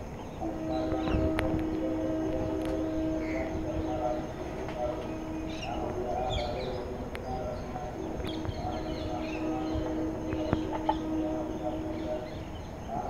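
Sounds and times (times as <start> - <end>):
steady low hum: 0.0 - 13.0
small birds chirping: 0.2 - 13.0.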